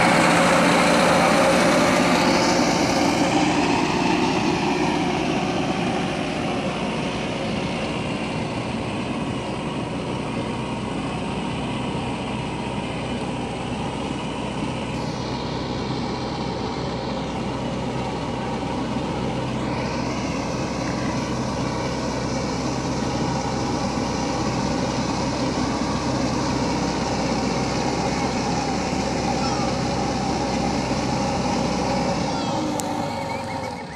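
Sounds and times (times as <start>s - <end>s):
backhoe diesel engine running: 0.0s - 33.9s.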